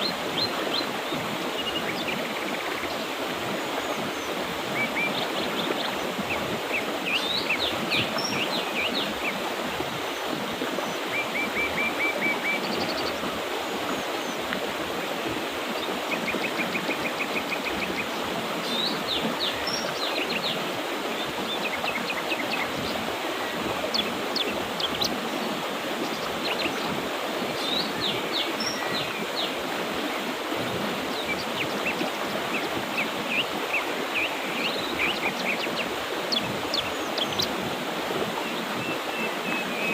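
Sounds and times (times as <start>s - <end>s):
river water flowing: 0.0s - 39.9s
songbirds chirping: 0.0s - 39.9s.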